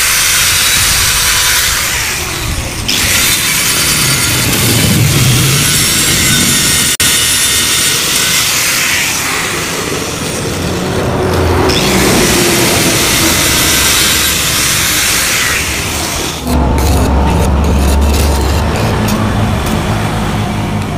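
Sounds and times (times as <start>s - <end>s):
angle grinder grinding metal: 0.0s - 20.8s.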